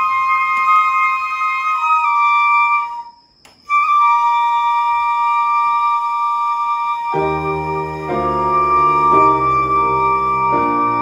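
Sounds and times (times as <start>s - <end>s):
bamboo flutes playing held notes: 0.0s - 11.0s.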